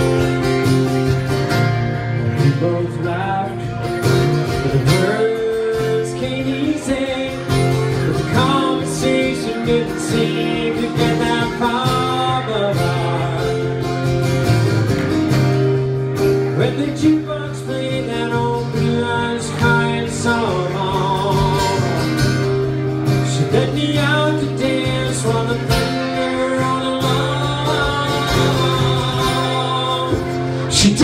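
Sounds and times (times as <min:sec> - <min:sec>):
sliding guitar lead melody: 0:00.0 - 0:31.0
strummed acoustic guitar chords: 0:00.0 - 0:31.0.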